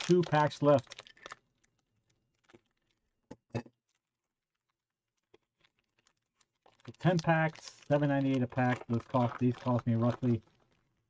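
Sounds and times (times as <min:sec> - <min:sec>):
plastic wrapper clicks and rustles: 0:00.0 - 0:11.0.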